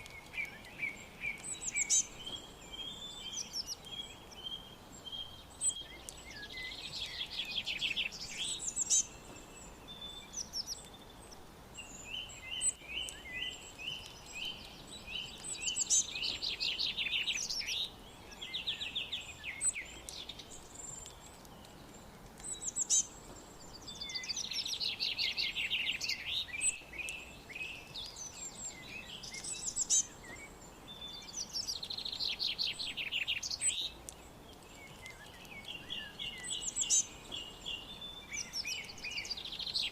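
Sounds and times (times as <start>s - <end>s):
soft steady hiss: 0.0s - 39.9s
songbirds singing: 0.0s - 39.9s.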